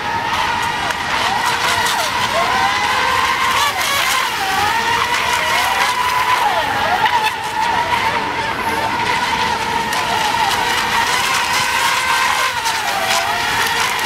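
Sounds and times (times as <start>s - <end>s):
electric motor whine: 0.0s - 14.0s
passing boat motor whines: 0.0s - 14.0s.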